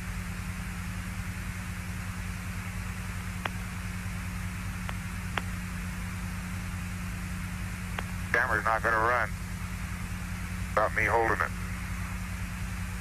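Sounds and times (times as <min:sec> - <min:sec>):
radio link hiss and hum: 0:00.0 - 0:13.0.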